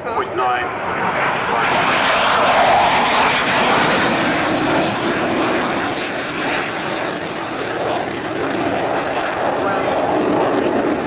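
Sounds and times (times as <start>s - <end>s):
jet passing low: 0.0s - 11.0s.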